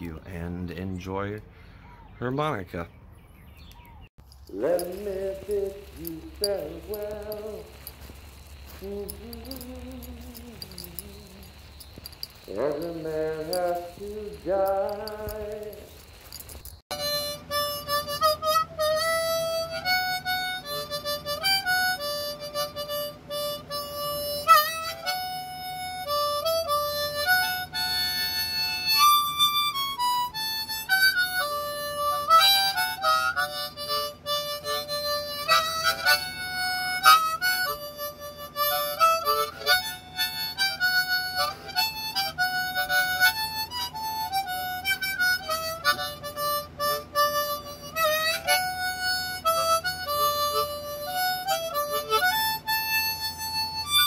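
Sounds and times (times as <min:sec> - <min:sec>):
harmonica melody: 0:04.5 - 0:54.0.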